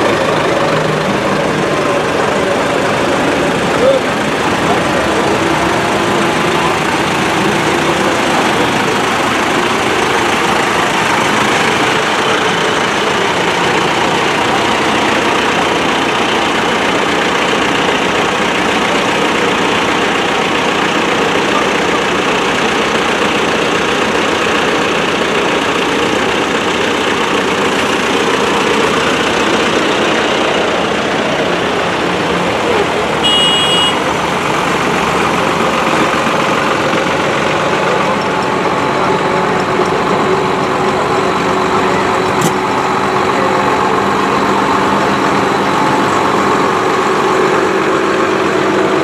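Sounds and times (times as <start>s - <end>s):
tractor diesel engines idling: 0.0s - 49.0s.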